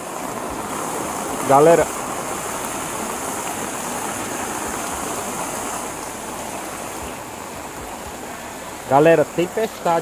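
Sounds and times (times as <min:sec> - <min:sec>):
rain hiss: 0:00.0 - 0:10.0
water rushing down a ditch: 0:00.0 - 0:10.0.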